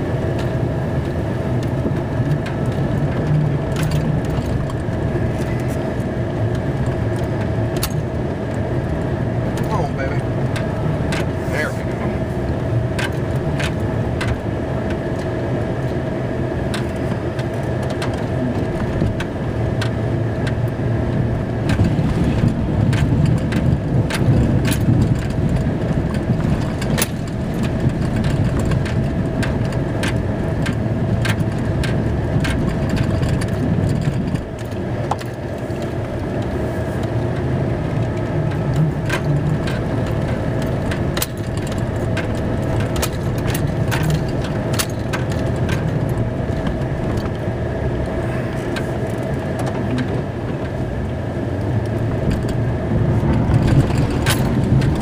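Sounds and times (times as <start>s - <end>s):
steady whine: 0.0s - 55.0s
truck engine running: 0.0s - 55.0s
sharp clicks and knocks: 0.3s - 11.4s, 12.9s - 16.0s, 16.7s - 55.0s.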